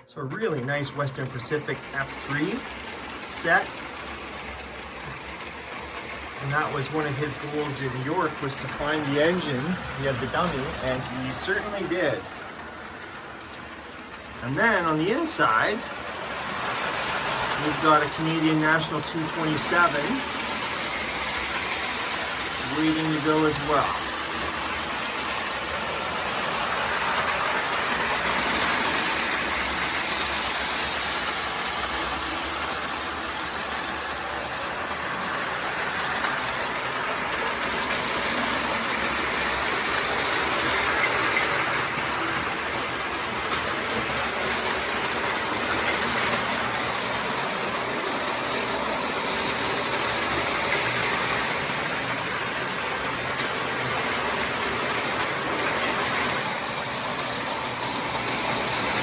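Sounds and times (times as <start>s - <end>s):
toy electric trains running: 0.0s - 59.0s.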